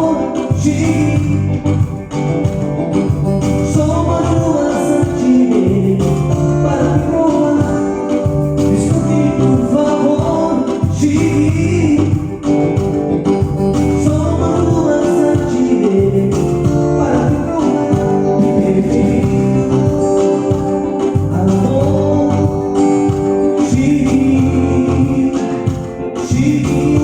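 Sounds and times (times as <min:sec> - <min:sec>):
person singing: 0:00.0 - 0:27.0
steady bass line: 0:00.0 - 0:27.0.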